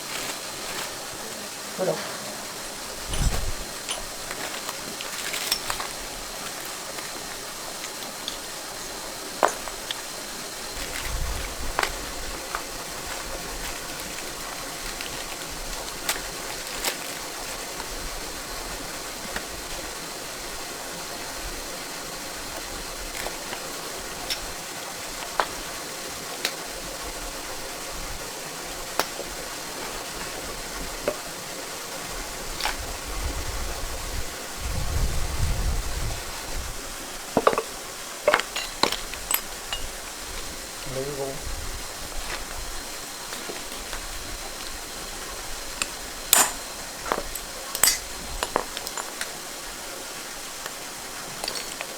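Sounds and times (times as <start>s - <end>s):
rain hissing: 0.0s - 51.9s.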